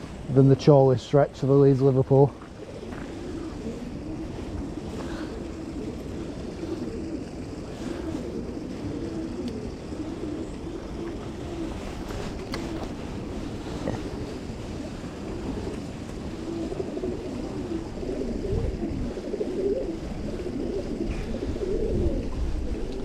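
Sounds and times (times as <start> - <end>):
wind buffeting microphone: 0.0 - 23.0
pigeon cooing: 2.3 - 23.0.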